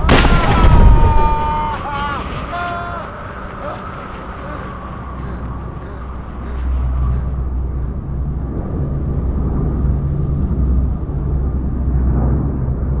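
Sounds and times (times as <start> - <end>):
aircraft engines droning: 1.0 - 13.0.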